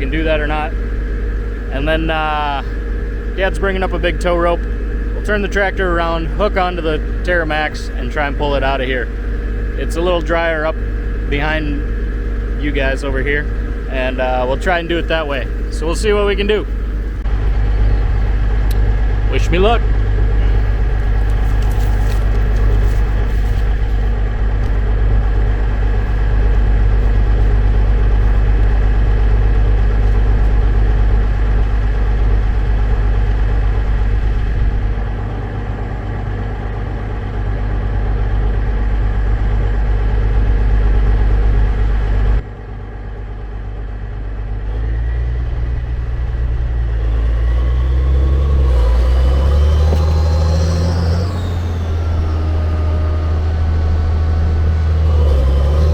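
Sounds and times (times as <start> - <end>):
tractor diesel engine droning: 0.0 - 55.9.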